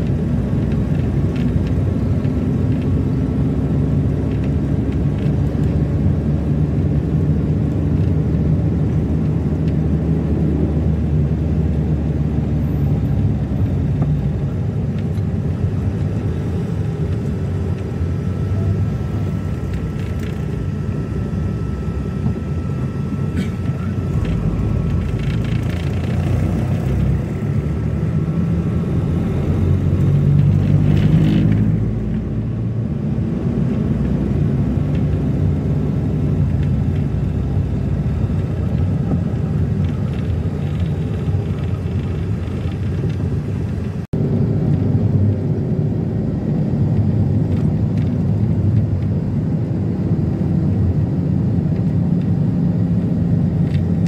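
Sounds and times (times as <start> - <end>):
road and engine rumble in car: 0.0 - 54.0.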